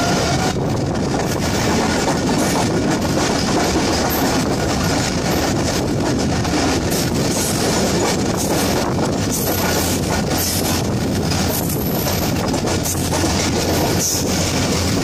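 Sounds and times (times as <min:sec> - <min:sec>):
train wheels rumbling on rails: 0:00.0 - 0:15.0
wheels clattering over rail joints: 0:00.0 - 0:15.0.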